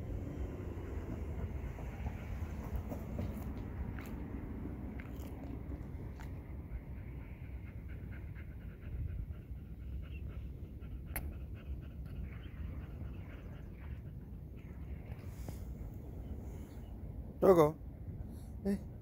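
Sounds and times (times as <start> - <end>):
dog panting: 1.0 - 16.8.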